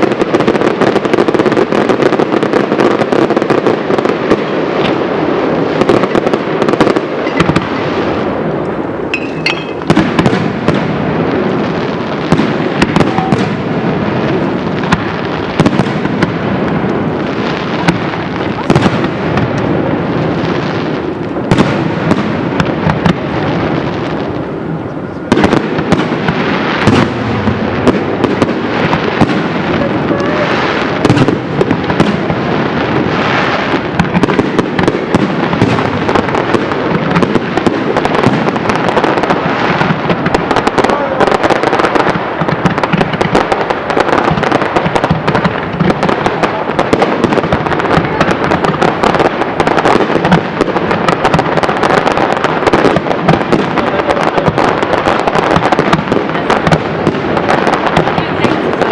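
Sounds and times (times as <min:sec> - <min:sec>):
fireworks crackling: 0:00.0 - 0:58.9
heavy firework bangs: 0:00.0 - 0:58.9.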